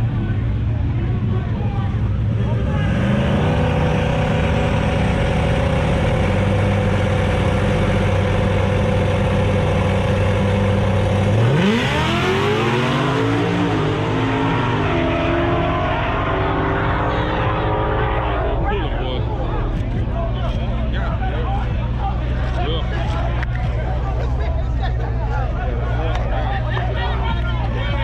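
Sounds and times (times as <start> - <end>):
drag racing car engine accelerating: 0.0 - 28.0.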